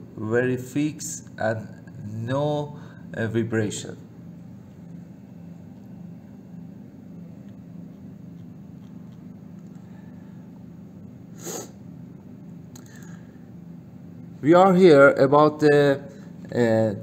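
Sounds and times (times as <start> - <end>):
low room tone hum: 0.0 - 17.0.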